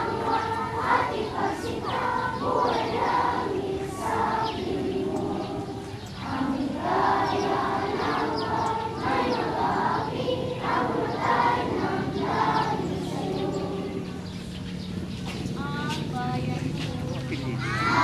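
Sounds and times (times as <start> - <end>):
children singing together: 0.0 - 14.3, 17.4 - 18.0.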